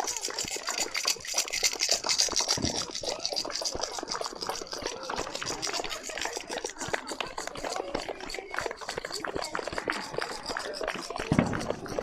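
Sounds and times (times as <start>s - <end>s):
crowd clapping: 0.0s - 12.0s
hand rattle shaking: 0.0s - 12.0s.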